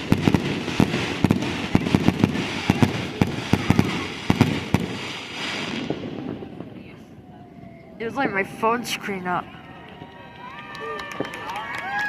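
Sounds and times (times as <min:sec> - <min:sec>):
fireworks sharp reports: 0:00.0 - 0:12.0.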